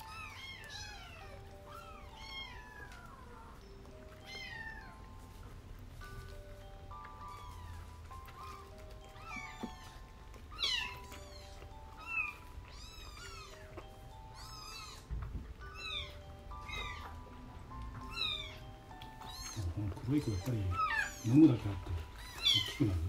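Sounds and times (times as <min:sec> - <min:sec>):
kittens mewing: 0:00.0 - 0:05.2, 0:06.8 - 0:23.0
soft background music: 0:00.0 - 0:23.0.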